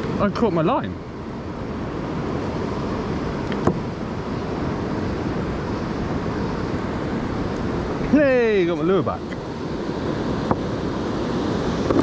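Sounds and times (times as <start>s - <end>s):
river water flowing: 0.0s - 12.0s
wind on microphone: 0.0s - 12.0s.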